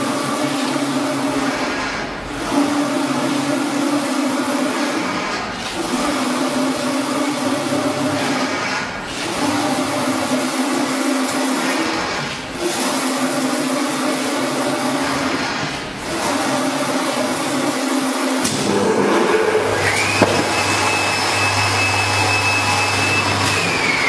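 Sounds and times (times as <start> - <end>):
printing machine humming: 0.0 - 24.0.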